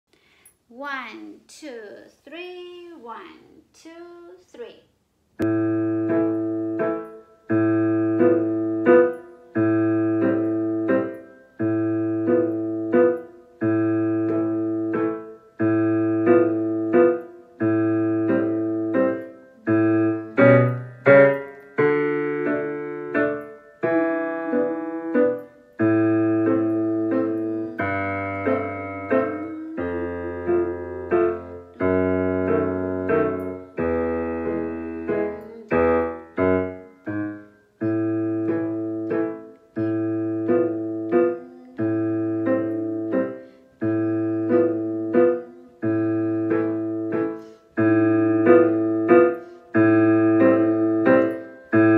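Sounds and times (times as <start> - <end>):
piano waltz accompaniment: 5.4 - 51.9.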